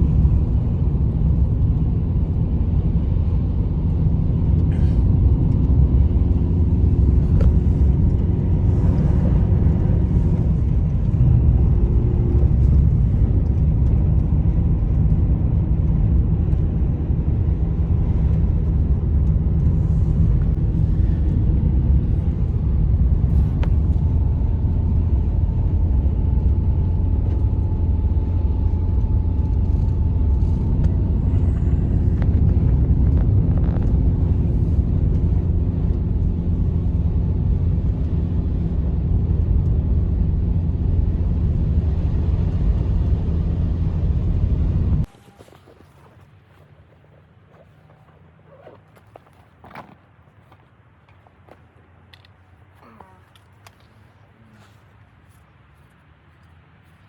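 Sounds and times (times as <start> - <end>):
loud steady low rumble: 0.0 - 50.6.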